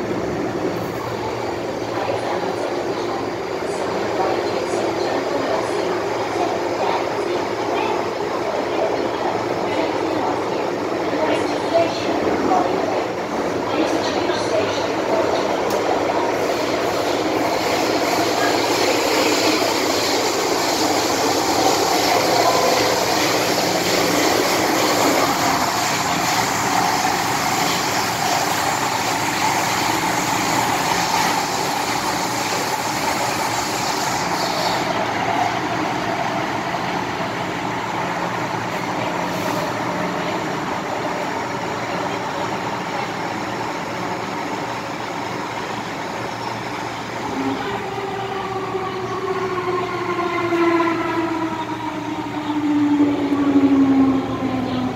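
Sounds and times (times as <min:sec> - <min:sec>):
train rumbling through tunnel: 0:00.0 - 0:54.9.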